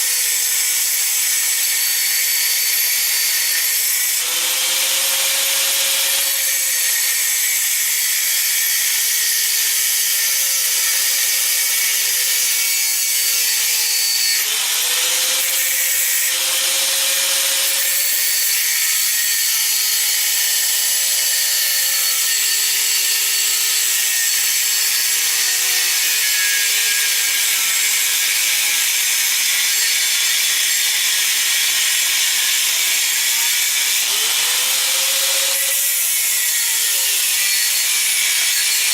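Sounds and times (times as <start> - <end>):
angle grinder cutting steel: 0.0 - 38.9.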